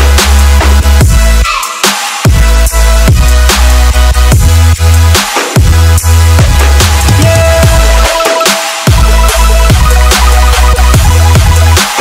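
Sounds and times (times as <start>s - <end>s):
heavy bass line: 0.0s - 1.4s, 2.3s - 8.2s, 8.9s - 12.0s.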